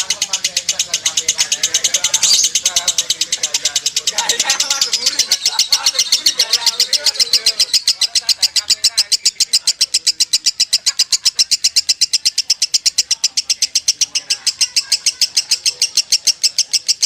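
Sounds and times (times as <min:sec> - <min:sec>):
lovebird chattering: 0:00.0 - 0:17.0.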